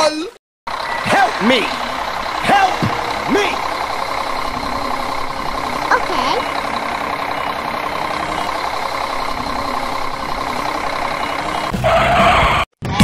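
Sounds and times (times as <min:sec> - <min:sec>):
truck engine idling: 0:00.7 - 0:12.6.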